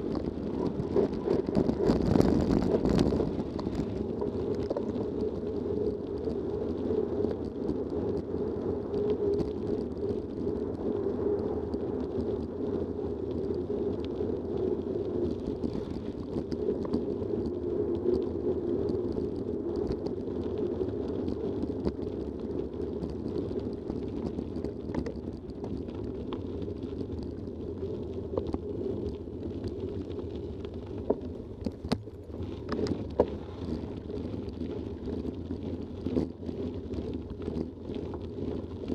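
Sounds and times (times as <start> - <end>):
bike tyres rumbling on gravel: 0.0 - 38.9.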